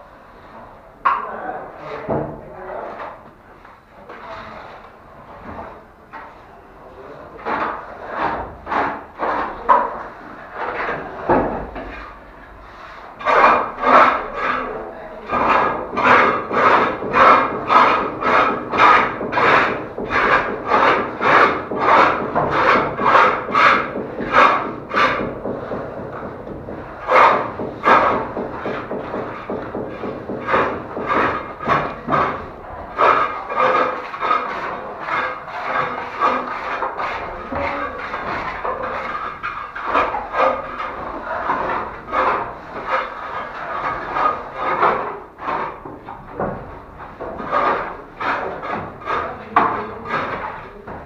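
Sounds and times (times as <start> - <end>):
hand tool scraping plaster: 4.0 - 51.0.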